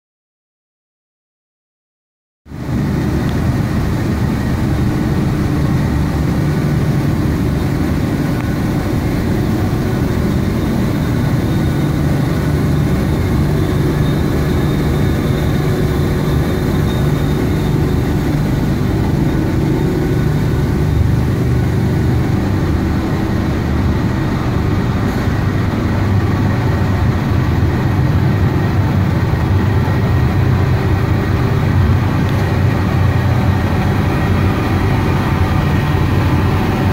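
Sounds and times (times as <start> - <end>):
printing press running: 2.6 - 36.9.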